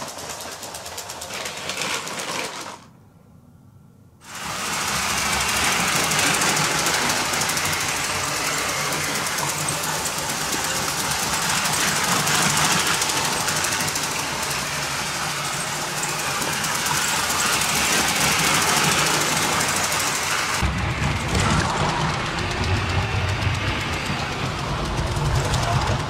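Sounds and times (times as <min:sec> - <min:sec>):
toy train motors whirring: 0:00.0 - 0:02.9, 0:04.2 - 0:26.0
wheels rattling on rails: 0:00.0 - 0:02.9, 0:04.3 - 0:26.0.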